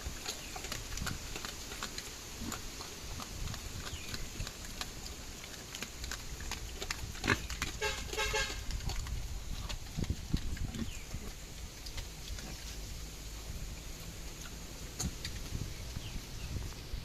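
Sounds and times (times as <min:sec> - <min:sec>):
pigs chewing crunchily: 0:00.0 - 0:17.0.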